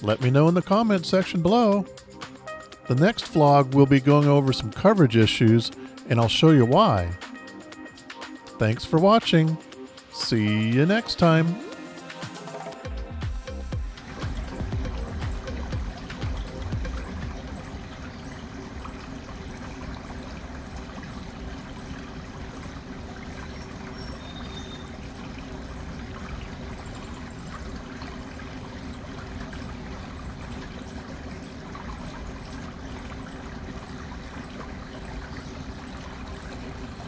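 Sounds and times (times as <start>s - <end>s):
creek trickling over stones: 0.0s - 12.0s, 13.8s - 37.0s.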